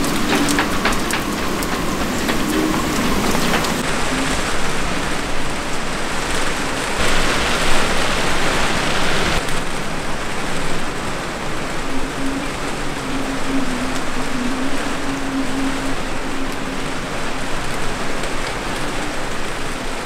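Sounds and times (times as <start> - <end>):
heavy rain: 0.0 - 20.0
strong wind: 0.0 - 20.0.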